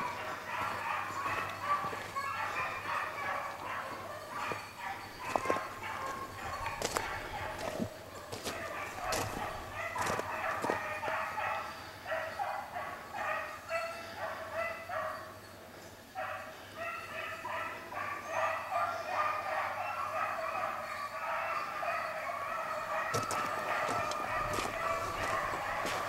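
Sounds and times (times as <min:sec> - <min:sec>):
hounds baying: 0:00.0 - 0:26.0.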